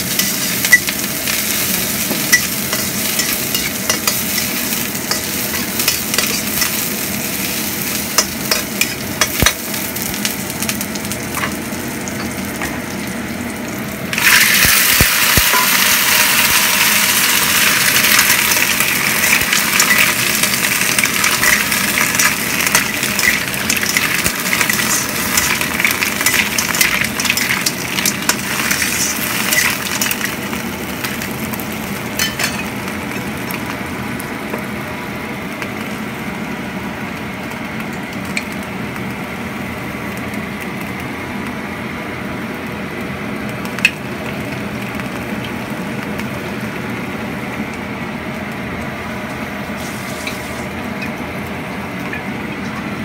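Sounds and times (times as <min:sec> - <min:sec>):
mussels sizzling in a wok: 0:00.0 - 0:53.0.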